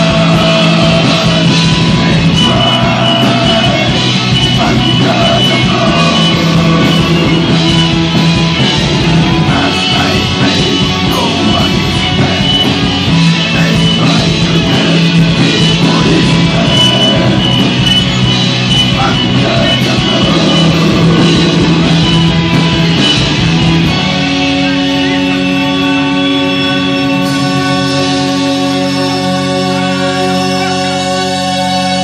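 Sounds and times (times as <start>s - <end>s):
bass guitar: 0.0s - 32.0s
drums: 0.0s - 32.0s
electric guitar: 0.0s - 32.0s.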